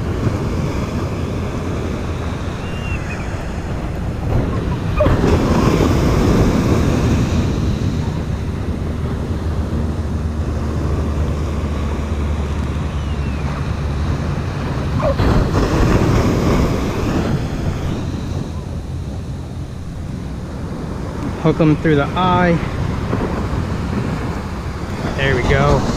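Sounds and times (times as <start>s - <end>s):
ocean surf washing ashore: 0.0s - 25.9s
wind buffeting microphone: 0.0s - 25.9s.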